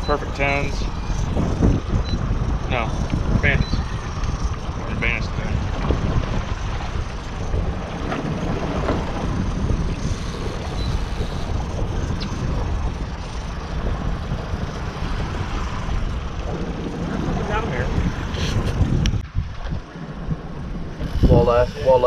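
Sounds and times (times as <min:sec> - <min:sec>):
choppy water splashing: 0:00.0 - 0:22.0
wind buffeting microphone: 0:00.0 - 0:22.0.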